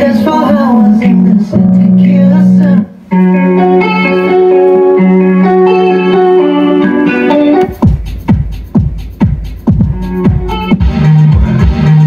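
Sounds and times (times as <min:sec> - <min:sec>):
guitar music through loudspeakers: 0:00.0 - 0:12.0.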